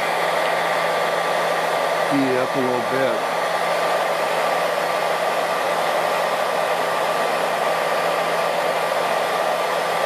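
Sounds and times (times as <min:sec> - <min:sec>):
faint motor hum: 0:00.0 - 0:10.0
hair dryer blowing air: 0:00.0 - 0:10.0.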